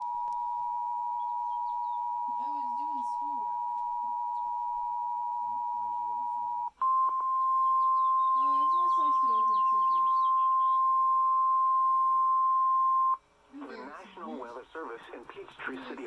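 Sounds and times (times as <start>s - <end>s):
steady alarm tone: 0.0s - 13.2s
two-tone attention signal: 0.0s - 13.2s.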